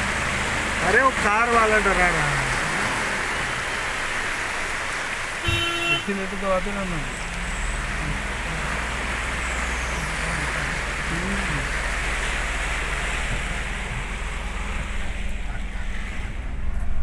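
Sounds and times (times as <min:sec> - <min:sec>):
floodwater rushing: 0:00.0 - 0:17.0
vehicle engine humming: 0:00.0 - 0:17.0.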